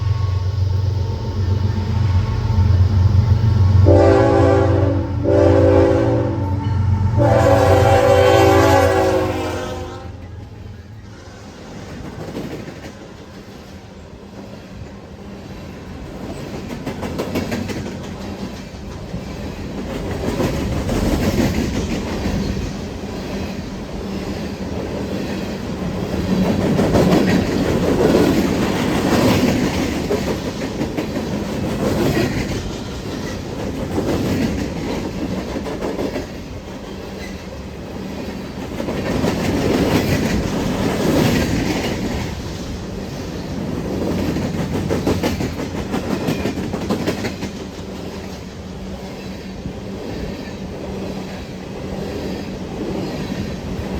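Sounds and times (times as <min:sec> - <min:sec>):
train wheels clicking over rail joints: 0:10.2 - 0:53.9.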